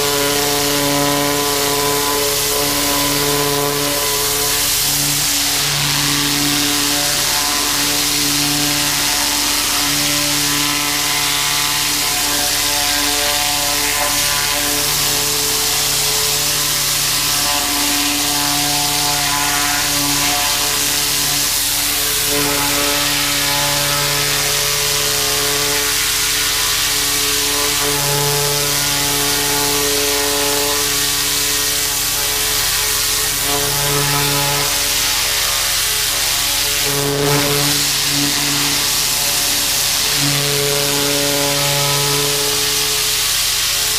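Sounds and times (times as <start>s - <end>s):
pressure washer engine: 0.0s - 43.9s
water jet hissing: 0.0s - 43.9s.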